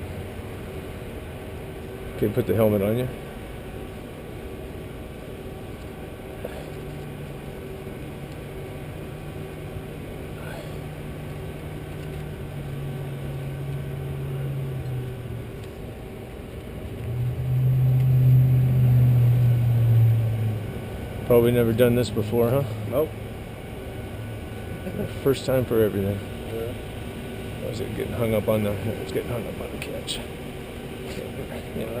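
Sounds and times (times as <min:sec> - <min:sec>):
low engine hum: 0:00.0 - 0:32.0.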